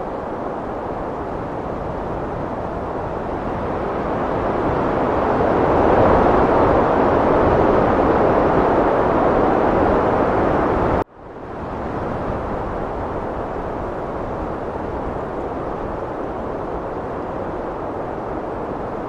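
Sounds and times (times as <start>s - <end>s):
heavy wind rushing: 0.0s - 19.0s.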